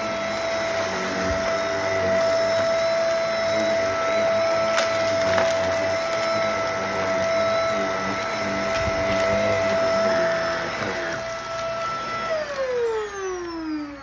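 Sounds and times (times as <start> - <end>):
crumbs crackling into nozzle: 0.0 - 12.9
vacuum cleaner motor whine: 0.0 - 14.0.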